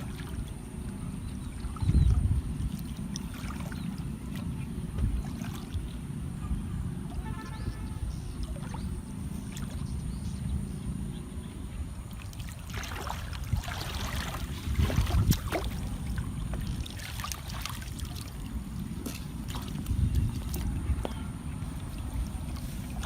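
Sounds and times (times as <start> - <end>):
steady low rumble: 0.0 - 23.0
water splashing and sloshing: 0.0 - 23.0.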